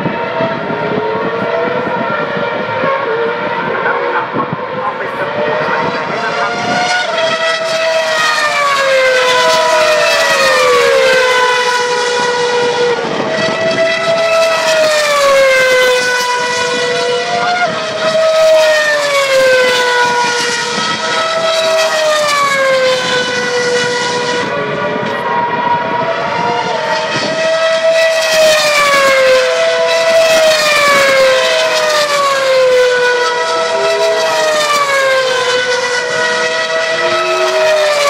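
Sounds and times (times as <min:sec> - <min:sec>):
racing car engines: 0:00.0 - 0:38.0.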